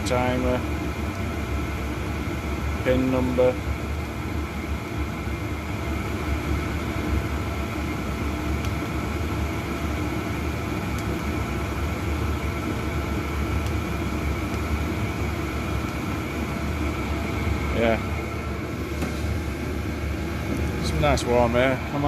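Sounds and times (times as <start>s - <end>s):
air heater whooshing hum: 0.0s - 22.0s.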